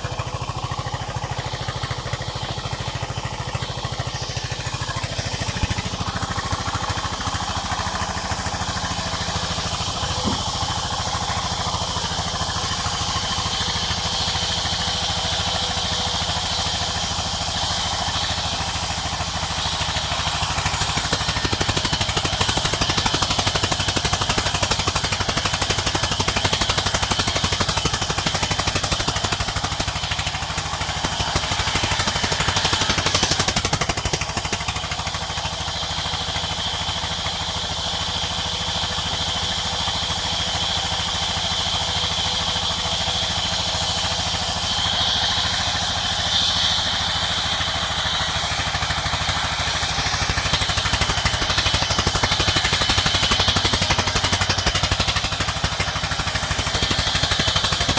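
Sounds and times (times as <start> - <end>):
saw hissing: 0.0 - 57.9
sawmill engine pulsing: 0.0 - 57.9.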